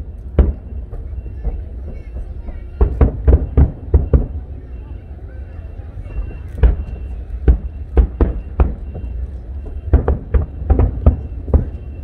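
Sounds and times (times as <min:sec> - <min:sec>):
fireworks bangs: 0:00.2 - 0:04.8, 0:06.0 - 0:12.0.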